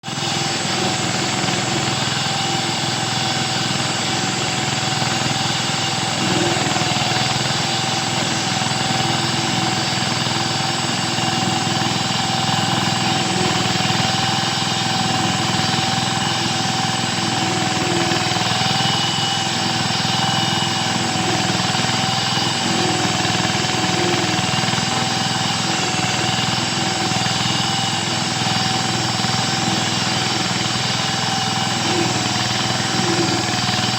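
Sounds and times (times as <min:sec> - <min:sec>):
diesel engine chugging: 0:00.0 - 0:33.9.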